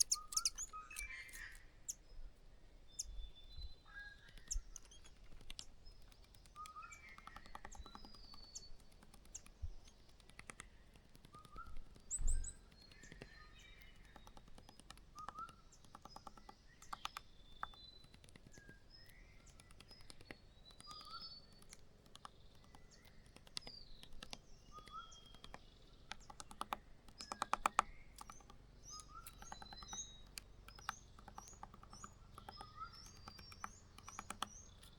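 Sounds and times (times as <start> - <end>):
clicks and scratches at nest: 0.0 - 1.6, 4.1 - 34.9
small birds chirping: 0.0 - 34.9.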